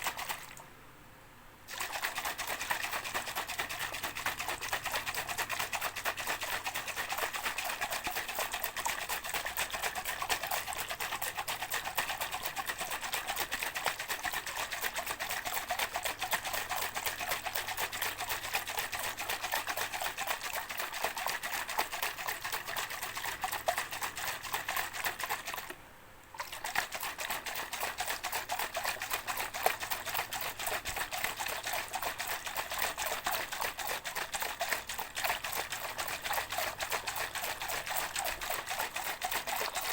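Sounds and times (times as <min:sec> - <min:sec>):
shaker rattling: 0:00.0 - 0:00.6, 0:01.7 - 0:25.7, 0:26.4 - 0:39.9.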